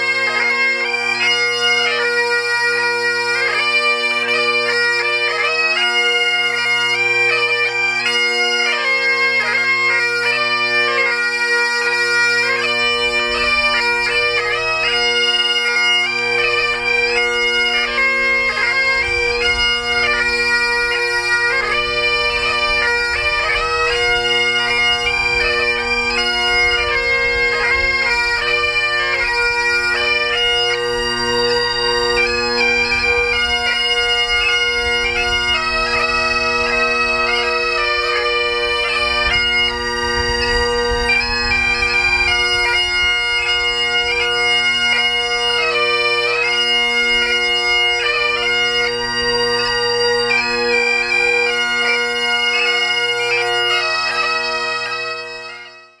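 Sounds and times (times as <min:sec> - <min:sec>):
bagpipes playing: 0:00.0 - 0:56.0.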